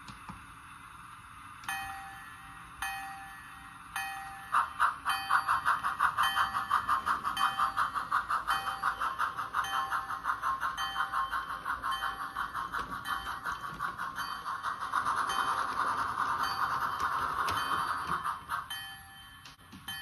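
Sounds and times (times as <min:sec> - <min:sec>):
steam locomotive chuffing: 0:01.3 - 0:20.0
ringing bell: 0:01.7 - 0:07.8, 0:09.6 - 0:20.0.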